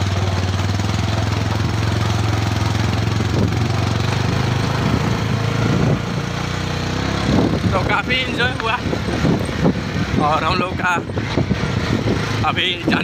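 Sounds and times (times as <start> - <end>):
constant rushing noise: 0.0 - 13.0
vehicle engine running: 0.0 - 13.0.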